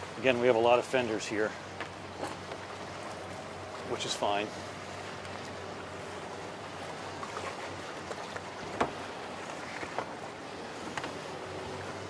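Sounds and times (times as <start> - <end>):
boat motor hum: 0.0 - 12.0
wind and water noise: 0.0 - 12.0.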